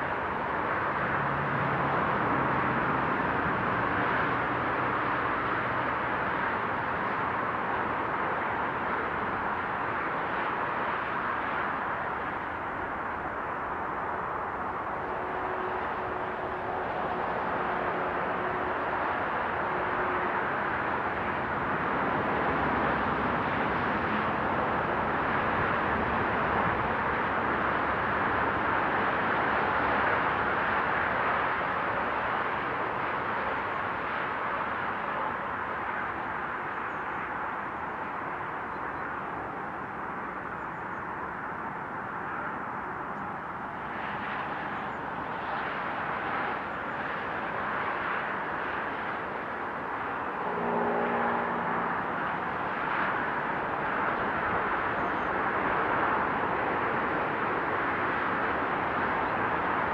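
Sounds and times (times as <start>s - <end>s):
motorway traffic rushing: 0.0s - 59.9s.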